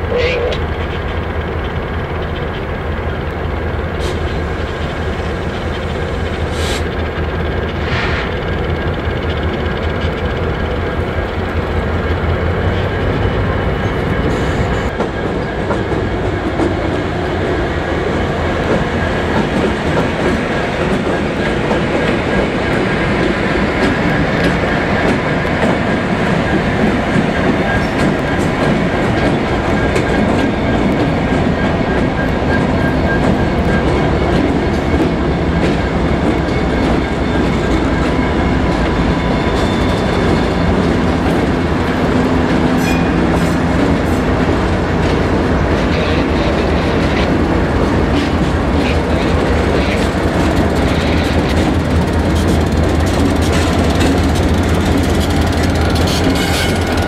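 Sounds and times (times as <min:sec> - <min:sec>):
diesel locomotive engines droning: 0:00.0 - 0:57.0
train wheels clicking over rail joints: 0:00.0 - 0:57.0.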